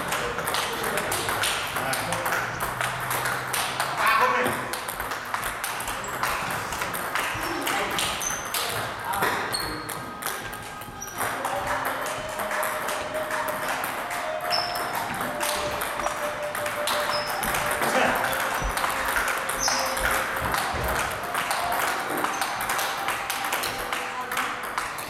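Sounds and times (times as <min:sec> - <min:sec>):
table tennis balls clicking: 0:00.0 - 0:25.0.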